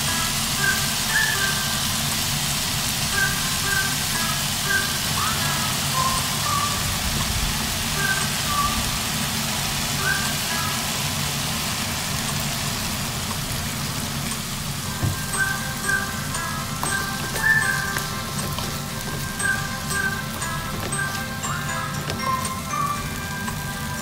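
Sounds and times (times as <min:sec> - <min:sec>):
light background music melody: 0:00.0 - 0:11.4, 0:13.8 - 0:24.0.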